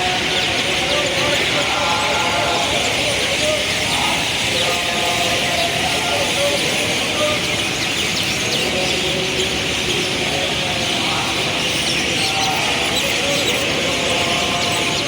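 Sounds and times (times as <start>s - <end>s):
small birds chirping: 0.0s - 15.0s
traffic hum: 0.0s - 15.0s.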